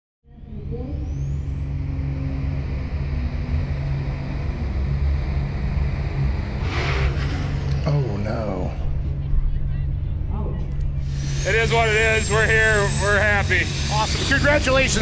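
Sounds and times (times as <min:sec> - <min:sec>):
high turbo whine: 0:00.4 - 0:15.0.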